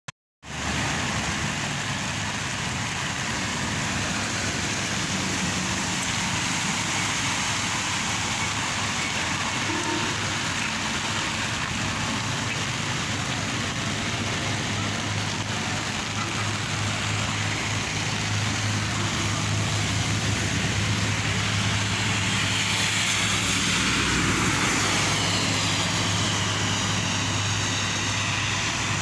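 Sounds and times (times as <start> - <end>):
rain pouring: 0.4 - 29.0.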